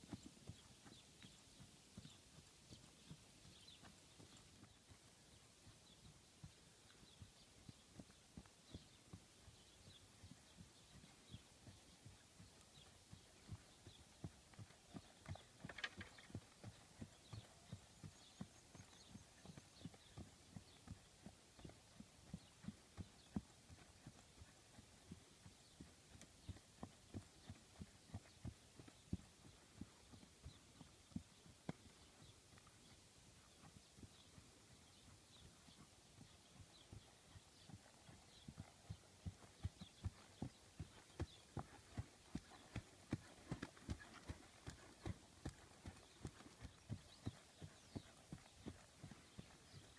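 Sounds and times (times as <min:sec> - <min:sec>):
horse hoofbeats trotting: 0:00.0 - 0:49.9.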